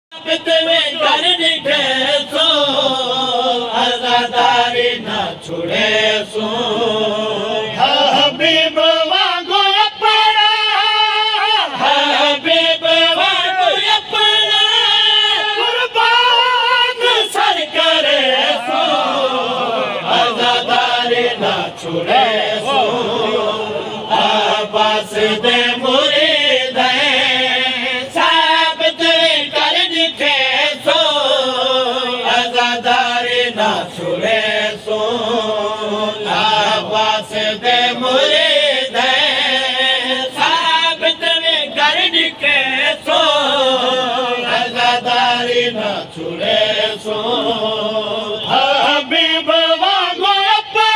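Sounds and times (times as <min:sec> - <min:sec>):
lead voice singing: 0:00.1 - 0:50.9
men chanting together: 0:00.1 - 0:50.9.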